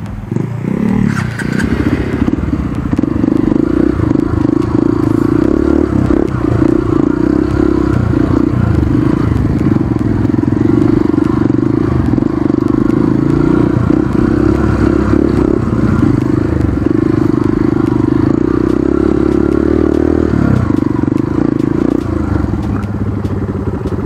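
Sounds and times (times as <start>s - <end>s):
dirt bike engine revving: 0.3s - 24.0s.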